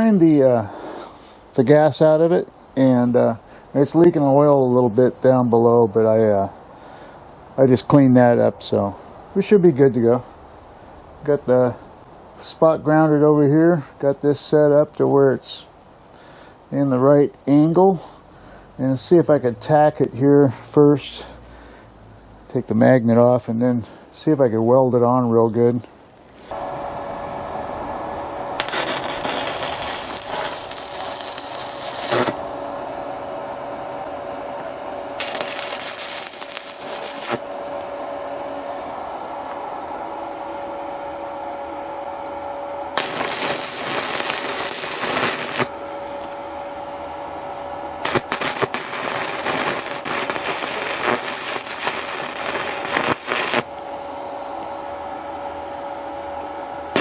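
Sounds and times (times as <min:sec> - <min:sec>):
crackling welding arc: 0:00.0 - 0:27.1, 0:27.7 - 0:37.9, 0:42.9 - 0:46.8, 0:48.0 - 0:53.9
welder hum with whine: 0:00.0 - 0:57.0.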